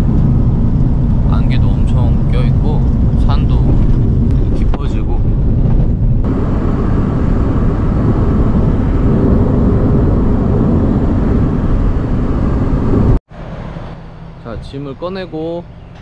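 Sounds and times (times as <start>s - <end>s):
road and engine noise inside van: 0.0s - 16.0s.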